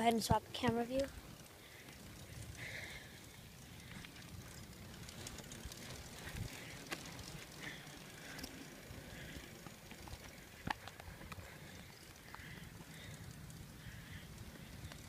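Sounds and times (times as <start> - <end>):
bike clicks and rattles: 0.0 - 15.0
tyres and wind rumble: 0.0 - 15.0.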